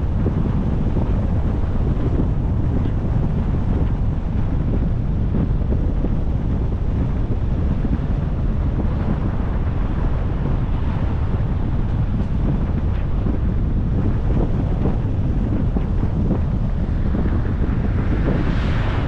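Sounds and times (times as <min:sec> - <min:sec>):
vehicle and road noise: 0:00.0 - 0:19.0
wind rush on microphone: 0:00.0 - 0:19.0.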